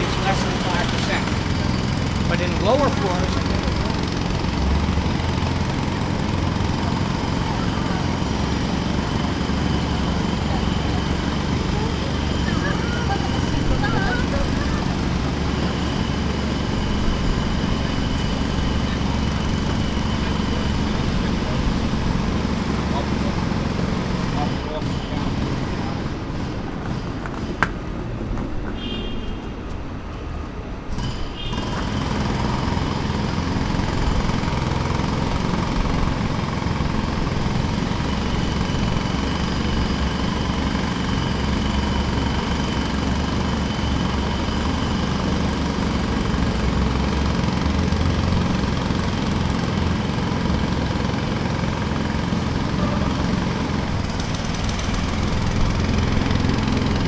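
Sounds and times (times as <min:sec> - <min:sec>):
jackhammer hammering: 0:00.0 - 0:27.9, 0:30.9 - 0:57.0.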